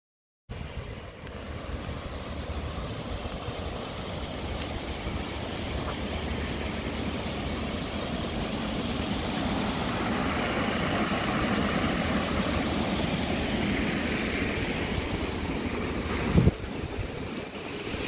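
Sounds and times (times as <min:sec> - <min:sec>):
water rushing down stone wall: 0:01.2 - 0:18.0.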